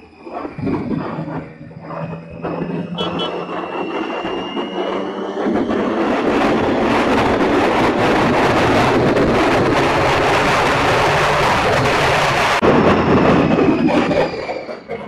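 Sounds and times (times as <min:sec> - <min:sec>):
wind rushing over microphone: 0:00.0 - 0:15.0
motorcycle engine running: 0:00.4 - 0:12.4.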